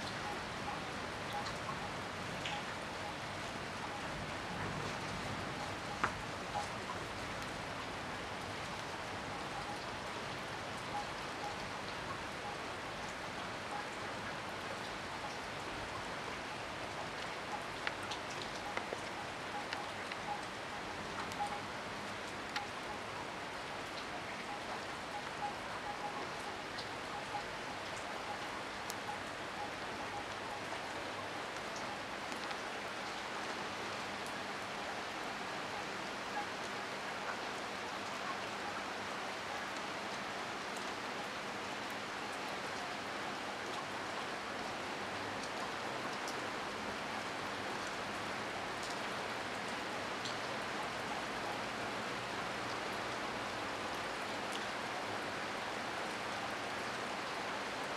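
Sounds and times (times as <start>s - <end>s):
hard rain falling: 0.0s - 57.9s.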